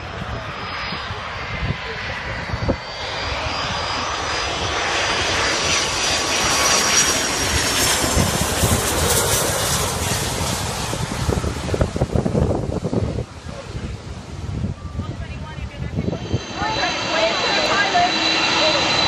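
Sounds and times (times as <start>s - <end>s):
jet airliner engine whine: 0.0s - 19.0s.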